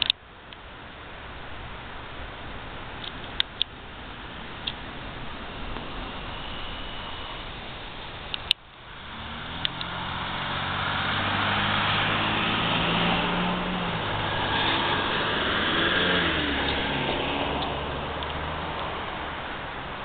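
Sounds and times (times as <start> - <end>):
vehicle engine and tyres passing: 0.0 - 20.0.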